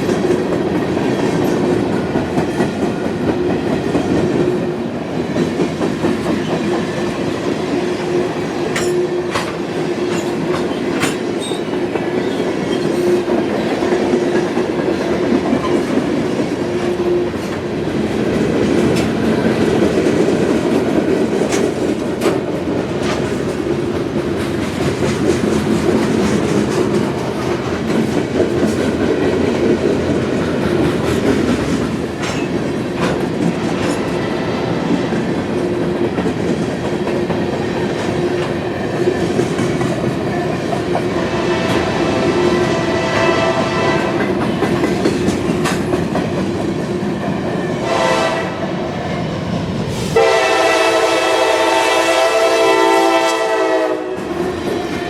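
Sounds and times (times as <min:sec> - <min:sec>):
train wheels clacking over rail joints: 0:00.0 - 0:48.3
train rumble: 0:00.0 - 0:55.0.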